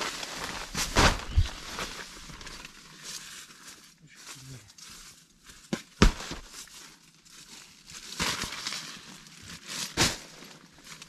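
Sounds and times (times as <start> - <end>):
rustling and crinkling handling: 0.0 - 11.0.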